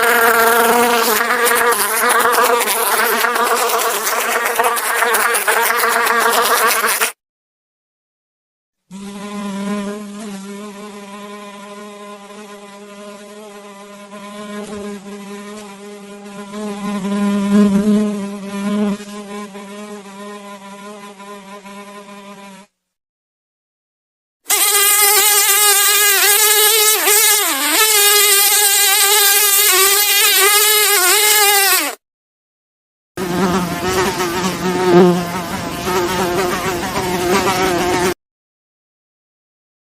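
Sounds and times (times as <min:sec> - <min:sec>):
fly buzzing: 0:00.0 - 0:07.2, 0:08.9 - 0:22.8, 0:24.5 - 0:32.0, 0:33.2 - 0:38.2.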